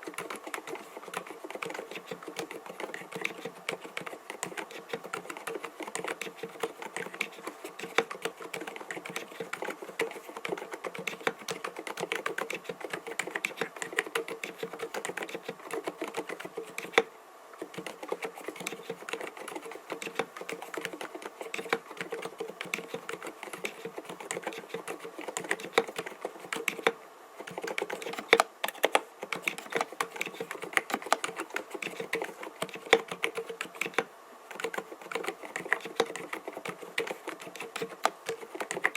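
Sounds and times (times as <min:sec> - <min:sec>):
soft keyboard typing: 0:00.0 - 0:38.9.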